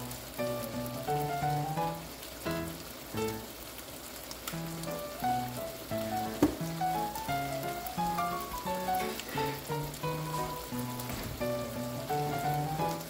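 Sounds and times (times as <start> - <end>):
background music melody: 0.0 - 3.5, 4.5 - 13.0
chicken and onions sizzling: 0.0 - 13.0.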